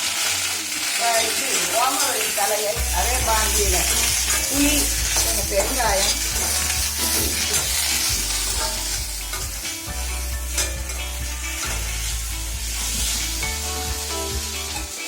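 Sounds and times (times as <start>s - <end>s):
leaves sizzling in a pan: 0.0s - 15.0s.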